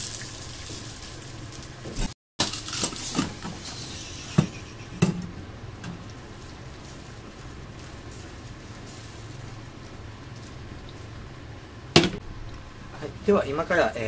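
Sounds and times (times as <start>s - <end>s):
frying pan sizzle: 0.0s - 14.0s.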